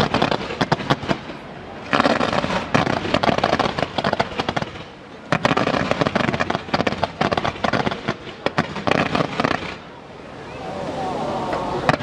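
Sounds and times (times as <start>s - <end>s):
fireworks bangs and crackling: 0.0s - 10.0s, 11.6s - 12.0s.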